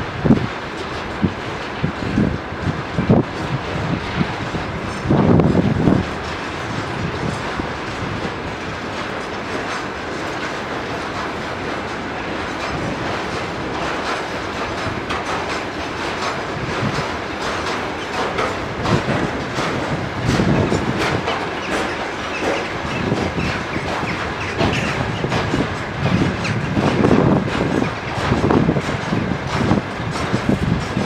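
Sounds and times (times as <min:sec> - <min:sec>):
freight train wheels rumbling: 0:00.0 - 0:31.0
wheels clacking over rail joints: 0:00.0 - 0:31.0.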